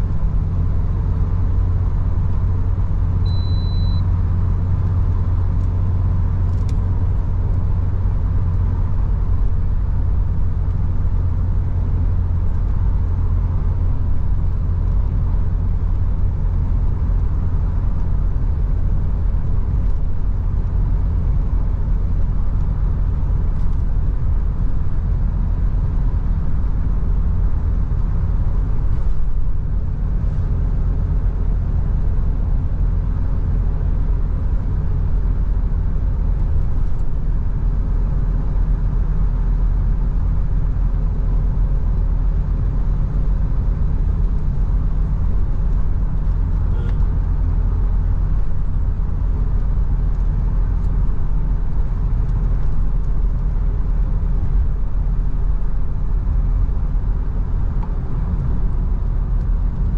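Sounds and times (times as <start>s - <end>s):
car engine rumble in cabin: 0.0s - 59.9s.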